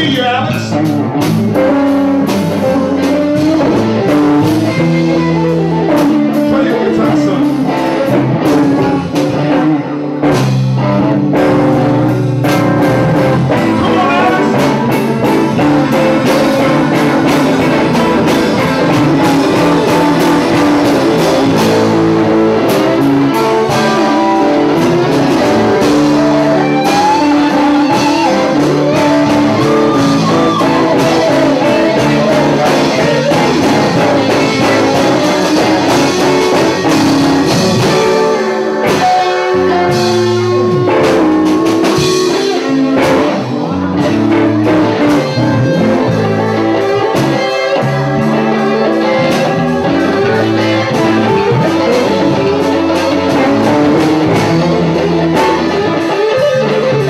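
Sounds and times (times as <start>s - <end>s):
blues band playing: 0.0s - 57.0s
guitar bending notes: 0.0s - 57.0s.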